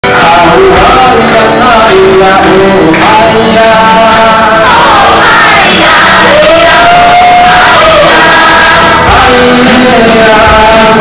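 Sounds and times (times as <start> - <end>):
acoustic guitar strumming: 0.0 - 11.0
man singing into a microphone: 0.0 - 11.0.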